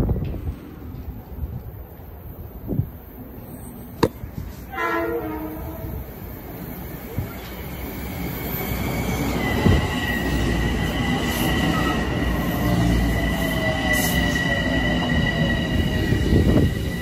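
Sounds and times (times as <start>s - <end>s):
train cars rumbling past: 0.0s - 17.0s.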